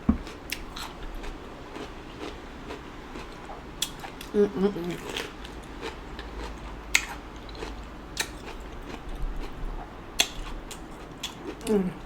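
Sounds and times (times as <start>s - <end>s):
chewing and biting food: 0.2s - 4.3s, 4.9s - 11.8s.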